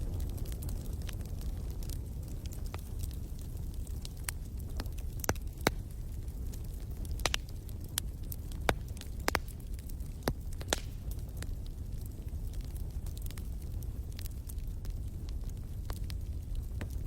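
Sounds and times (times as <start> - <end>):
campfire crackling and popping: 0.0 - 17.0
fire low rumble: 0.0 - 17.0.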